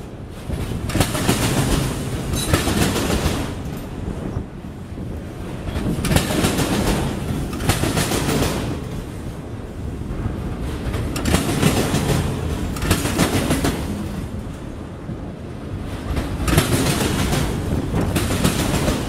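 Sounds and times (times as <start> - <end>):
train cars clattering: 0.0 - 19.0
train wheels rumbling on rail: 0.0 - 19.0.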